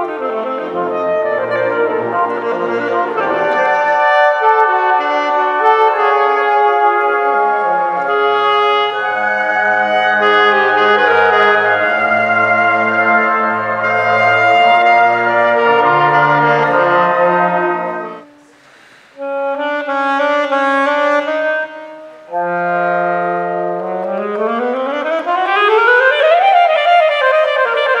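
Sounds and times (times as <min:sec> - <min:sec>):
saxophone held notes: 0:00.0 - 0:27.2.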